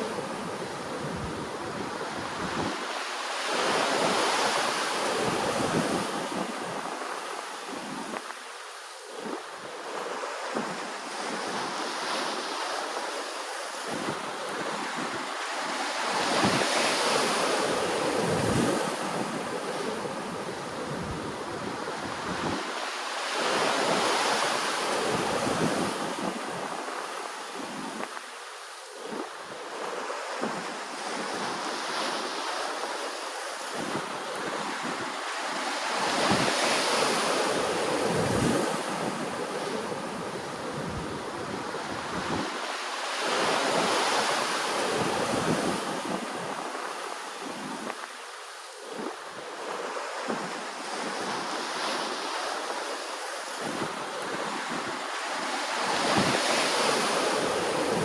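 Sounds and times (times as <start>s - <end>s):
ocean waves washing onto shore: 0.0s - 58.0s.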